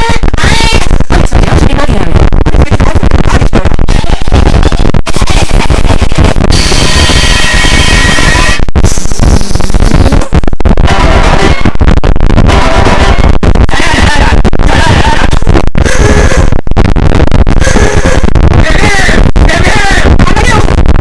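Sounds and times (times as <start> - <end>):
harsh distorted noise: 0.0 - 21.0
high buzzing tone: 0.0 - 21.0.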